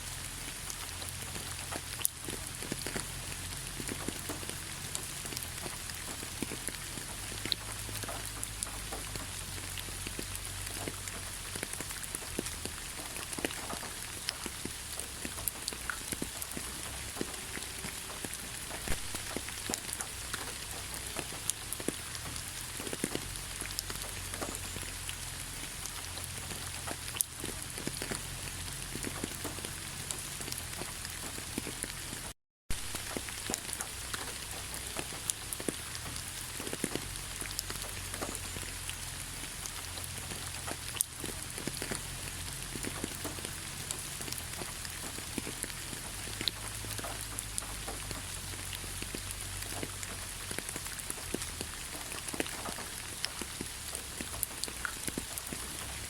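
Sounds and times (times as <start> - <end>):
rain hiss: 0.0 - 56.0
raindrops ticking close by: 0.0 - 56.0.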